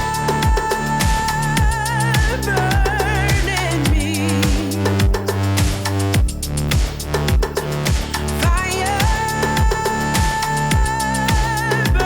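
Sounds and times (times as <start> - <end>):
electronic beat music: 0.0 - 12.0
kick drum: 0.0 - 12.0.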